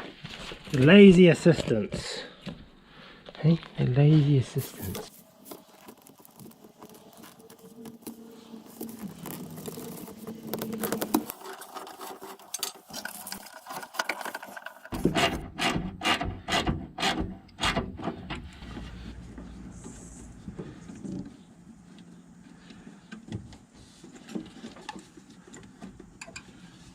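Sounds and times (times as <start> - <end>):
rubbing and scraping of tools: 4.2 - 26.9.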